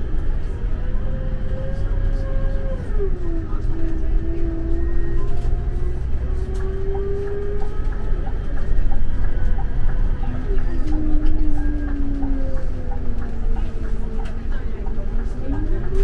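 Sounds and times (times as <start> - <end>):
bus engine and road rumble: 0.0 - 16.0
engine whine: 0.0 - 16.0.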